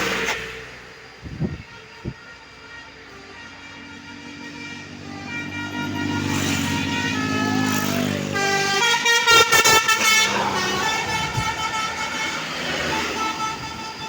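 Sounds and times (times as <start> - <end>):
bus engine: 0.0 - 14.0
multi-tone musical bus horn: 0.0 - 14.0.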